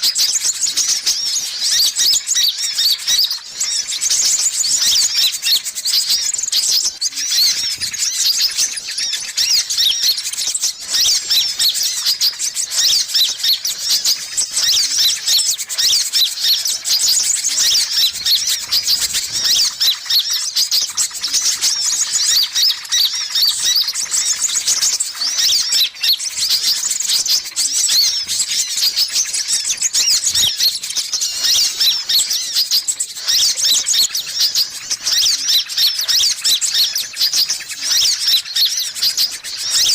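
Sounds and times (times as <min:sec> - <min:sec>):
sunbirds chirping and twittering: 0:00.0 - 0:39.9.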